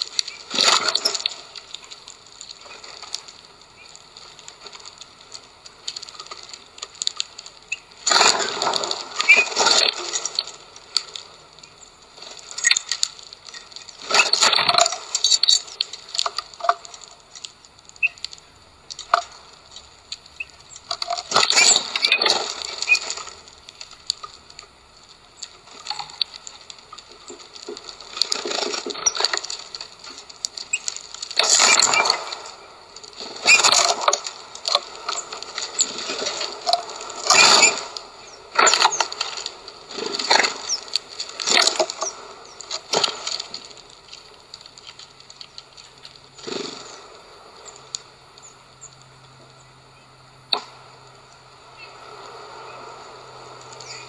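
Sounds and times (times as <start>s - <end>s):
seeds crackling and clicking: 0.0s - 54.0s.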